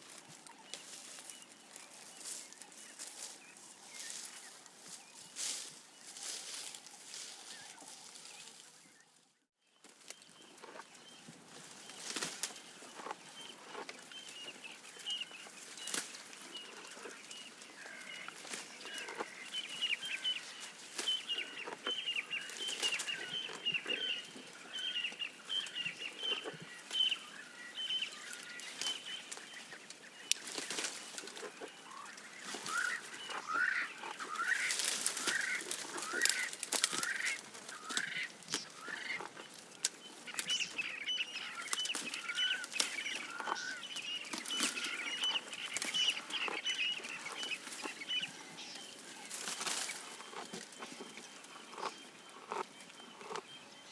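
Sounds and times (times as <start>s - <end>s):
birds chirping: 0.0s - 53.9s
giraffe chewing leaves: 10.2s - 53.9s.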